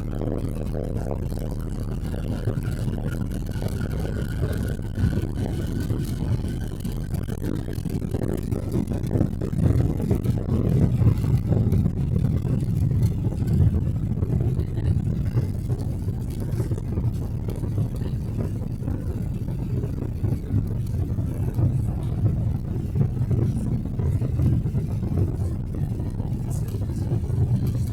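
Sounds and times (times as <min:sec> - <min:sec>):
airliner cabin engine rumble: 0:00.0 - 0:27.9.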